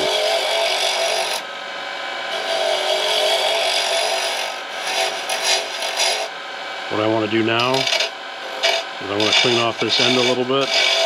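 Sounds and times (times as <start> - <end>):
turning tool scraping wood: 0.0 - 1.4, 2.3 - 6.3, 7.0 - 11.0
lathe humming: 0.0 - 11.0.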